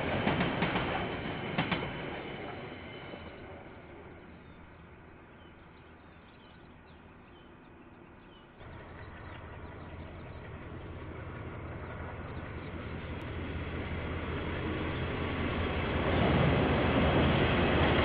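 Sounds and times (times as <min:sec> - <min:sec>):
low rumble of approaching train: 0:00.0 - 0:18.0
train rumbling past: 0:00.0 - 0:18.0.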